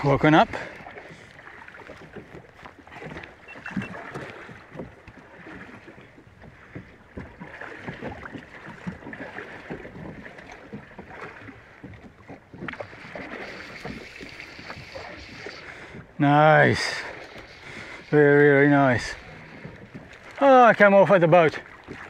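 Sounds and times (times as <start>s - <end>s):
small knocks and splashes: 0.0s - 22.0s
water lapping against boat hull: 0.0s - 22.0s.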